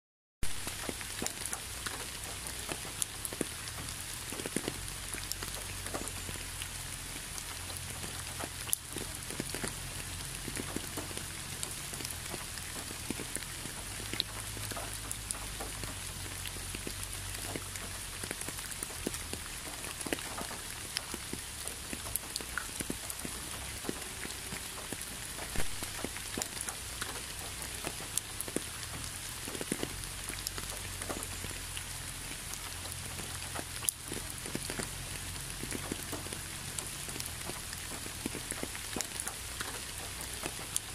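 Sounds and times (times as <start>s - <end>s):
rain drops ticking: 0.4s - 40.9s
rain hiss: 0.4s - 40.9s.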